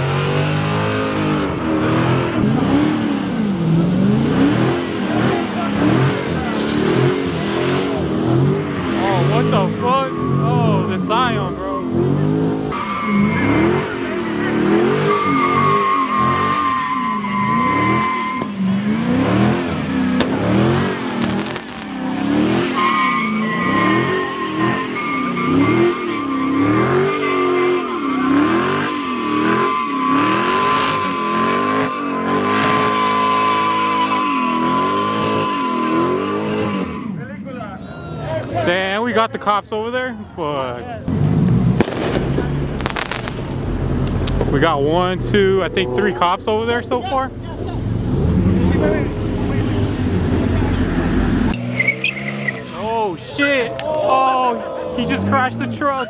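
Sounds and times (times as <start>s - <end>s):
car engine revving hard: 0.0s - 37.2s, 41.1s - 56.0s
tires squealing: 0.0s - 39.6s, 40.2s - 56.0s.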